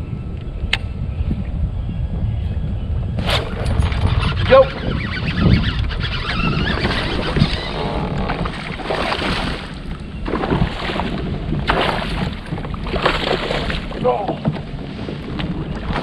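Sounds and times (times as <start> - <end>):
wind buffeting microphone: 0.0 - 16.0
water around a hull: 2.8 - 16.0.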